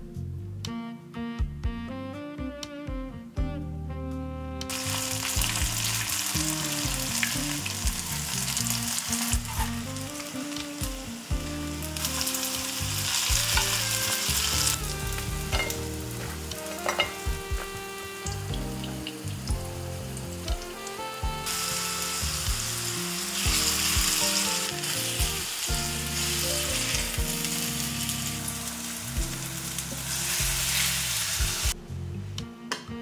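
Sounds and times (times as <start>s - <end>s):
food sizzling in hot oil: 4.7s - 31.8s.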